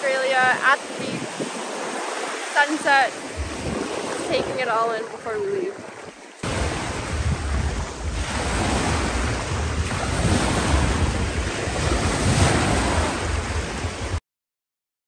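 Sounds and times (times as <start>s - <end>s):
sea waves breaking at shore: 0.0s - 14.2s
wind buffeting microphone: 0.0s - 14.2s.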